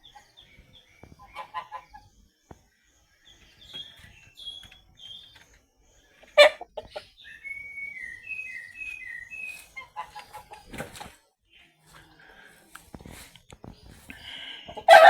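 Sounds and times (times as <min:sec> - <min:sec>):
chickens clucking: 0:00.0 - 0:02.6, 0:03.3 - 0:15.0
chicks peeping: 0:00.0 - 0:15.0.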